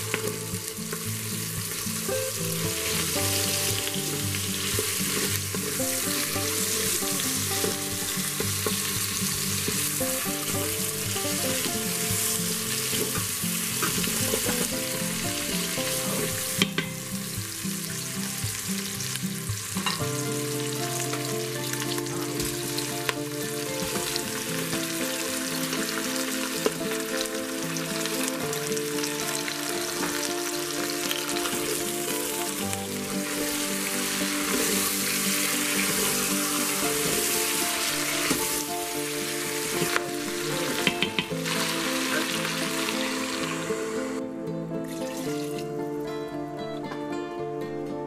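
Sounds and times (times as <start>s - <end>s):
meat and onion sizzling in oil: 0.0s - 44.2s
soft background music: 0.0s - 48.0s.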